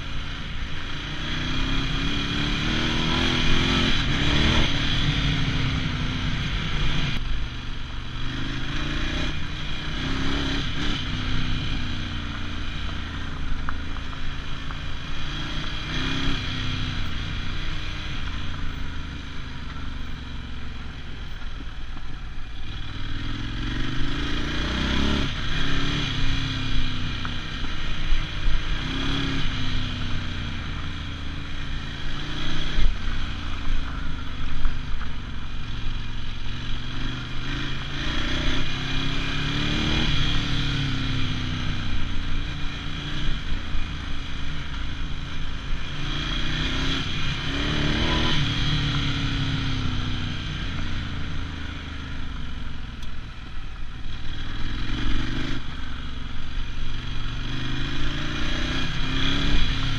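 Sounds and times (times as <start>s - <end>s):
motorcycle engine revving: 0.0s - 59.9s
wind and tyres on gravel: 0.0s - 59.9s.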